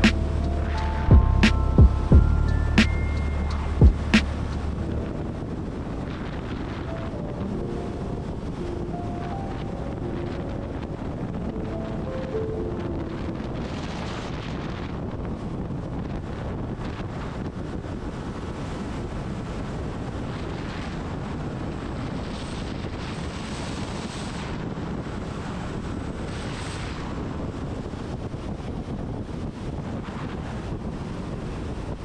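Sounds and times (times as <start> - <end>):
wind rushing over a microphone: 0.0 - 32.0.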